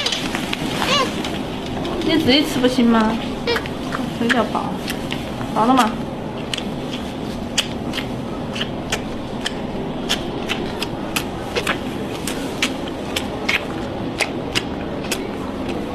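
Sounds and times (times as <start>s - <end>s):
room hum: 0.0s - 15.9s.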